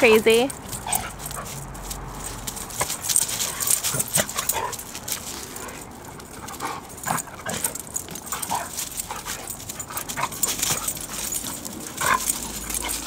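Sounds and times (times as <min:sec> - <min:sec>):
scuffling in dry leaves: 0:00.2 - 0:13.0
dogs yipping: 0:00.6 - 0:13.0.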